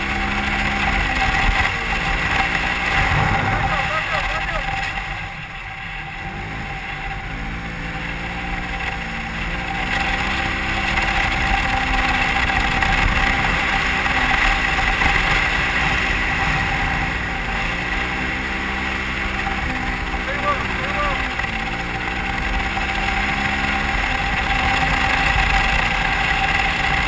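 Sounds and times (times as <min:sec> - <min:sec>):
engine under throttle: 0:00.0 - 0:27.0.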